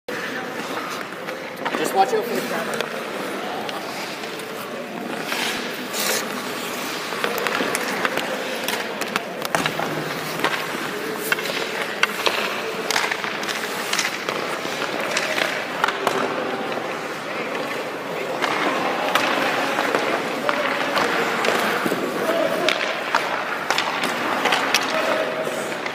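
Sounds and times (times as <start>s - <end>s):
hockey sticks and pucks clacking: 0.1s - 25.9s
skates scraping on ice: 0.1s - 25.9s.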